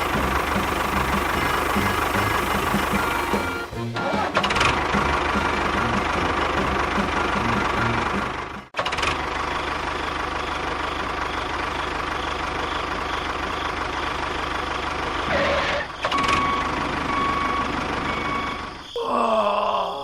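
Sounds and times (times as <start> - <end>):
small engine running: 0.0 - 18.7.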